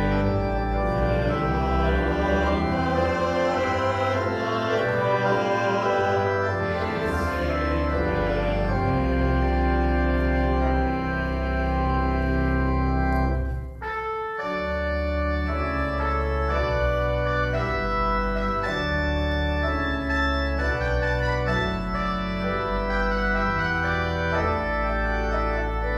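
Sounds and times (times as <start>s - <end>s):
church organ chords: 0.0s - 25.9s.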